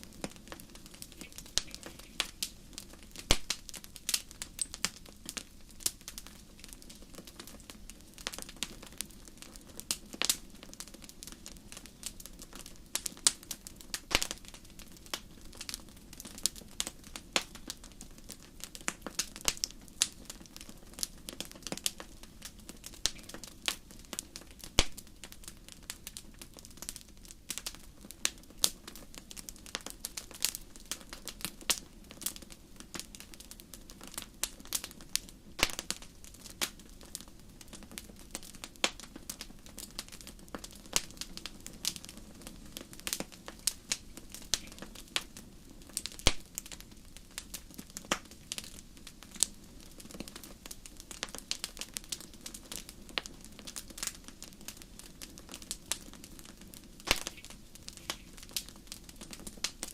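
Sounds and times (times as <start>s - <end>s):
sharp pops and snaps of fire: 0.0s - 59.9s
wood fire crackling: 0.0s - 59.9s.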